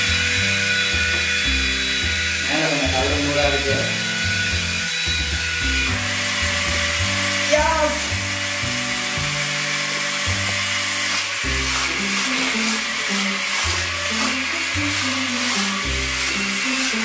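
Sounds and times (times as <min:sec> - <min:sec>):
background music with bass line: 0:00.0 - 0:17.0
toy fan whirring: 0:00.0 - 0:17.0.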